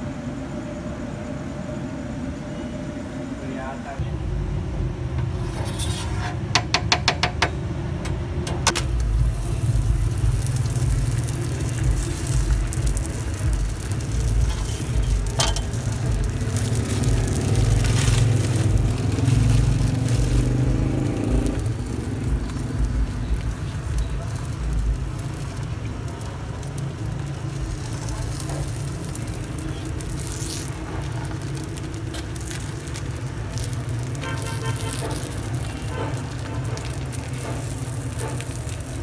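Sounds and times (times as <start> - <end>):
steady low rumble: 0.0 - 5.9, 7.7 - 39.0.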